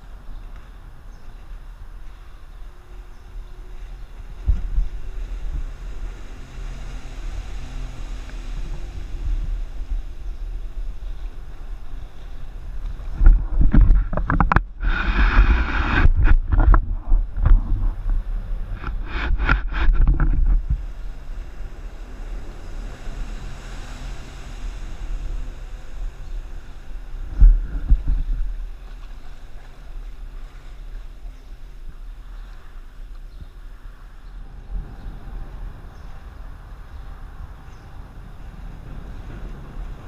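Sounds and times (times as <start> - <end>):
small outboard motor running: 0.0 - 40.0
wind buffeting microphone: 0.0 - 40.0.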